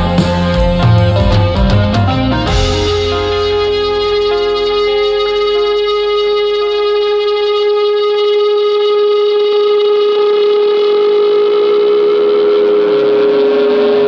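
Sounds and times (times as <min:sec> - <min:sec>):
droning guitar note: 0:00.0 - 0:14.0.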